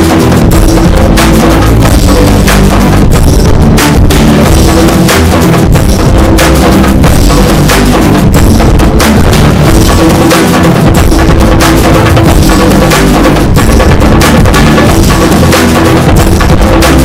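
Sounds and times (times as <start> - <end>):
rapid dense drumming: 0.0 - 17.0.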